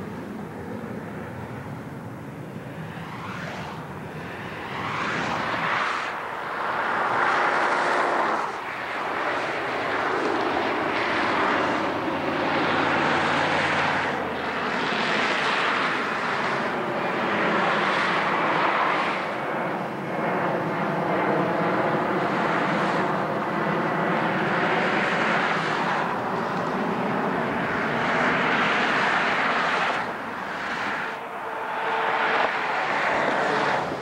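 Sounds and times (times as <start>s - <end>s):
jet airliner passing overhead: 0.0s - 34.0s.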